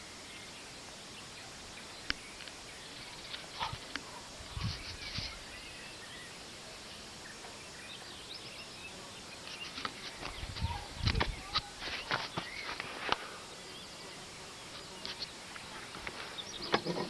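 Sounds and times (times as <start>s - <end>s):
faint chirps: 0.0s - 17.0s
outdoor background noise: 0.0s - 17.0s.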